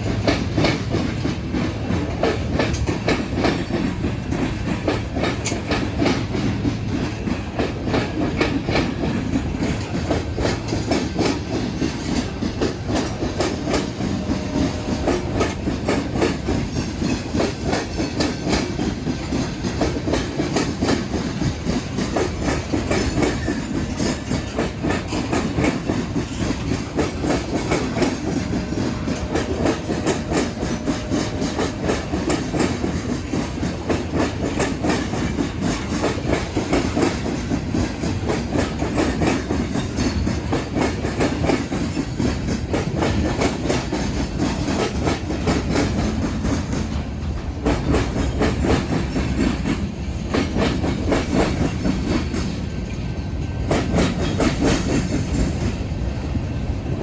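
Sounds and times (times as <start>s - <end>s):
freight train rumble: 0.0s - 57.0s
train wheels clattering over crossing: 0.0s - 57.0s.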